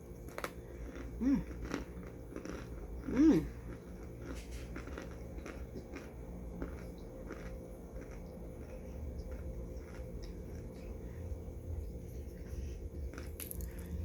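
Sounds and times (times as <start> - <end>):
person chewing and crunching: 0.0 - 14.0
steady low hum: 0.0 - 14.0.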